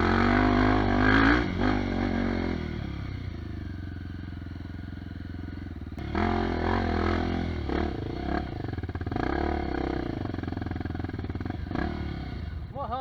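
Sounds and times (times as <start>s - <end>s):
dirt bike engine revving: 0.0s - 4.9s, 5.5s - 12.6s.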